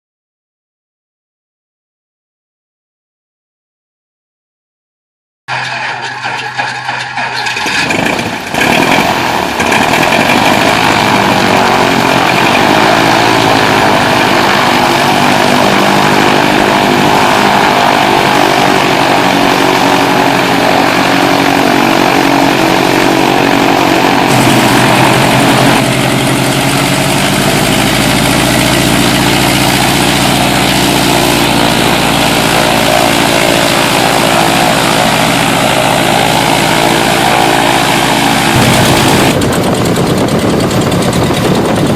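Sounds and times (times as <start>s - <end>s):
light aircraft piston engine drone: 5.5s - 41.9s.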